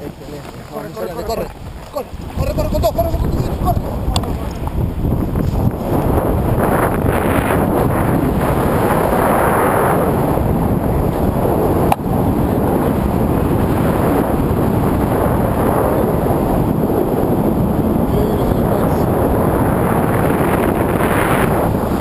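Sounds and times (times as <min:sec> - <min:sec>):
wind noise on microphone: 0:00.0 - 0:22.0.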